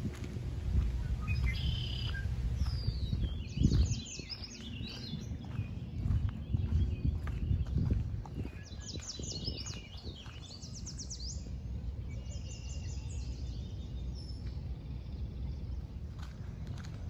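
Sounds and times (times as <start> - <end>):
songbird singing: 0.0 - 17.0
steady low rumble: 0.0 - 17.0.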